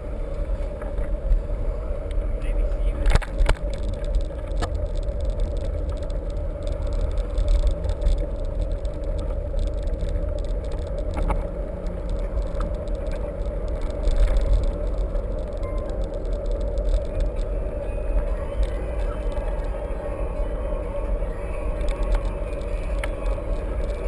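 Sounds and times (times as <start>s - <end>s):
bike rattling over rough ground: 0.0s - 24.0s.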